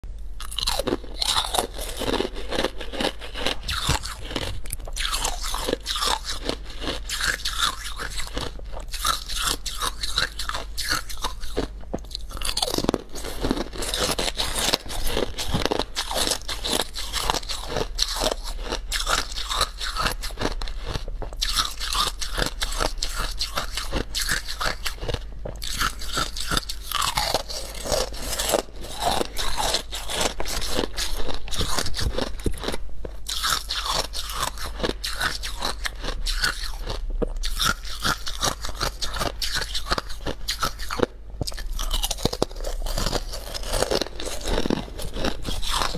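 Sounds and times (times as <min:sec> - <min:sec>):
ice being chewed: 0:00.4 - 0:45.9.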